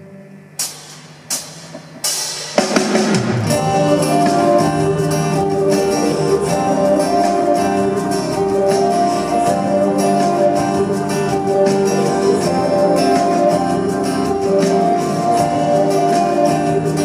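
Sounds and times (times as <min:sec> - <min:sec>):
rock band playing: 0:00.6 - 0:17.0.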